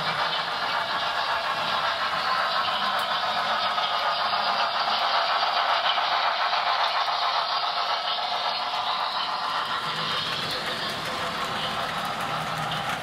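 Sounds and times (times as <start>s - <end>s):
model train wheels clattering: 0.0s - 13.0s.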